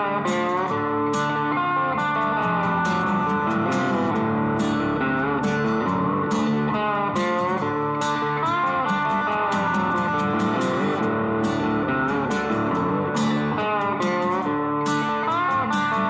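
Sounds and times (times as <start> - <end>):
guitar-led background music: 0.0 - 16.0.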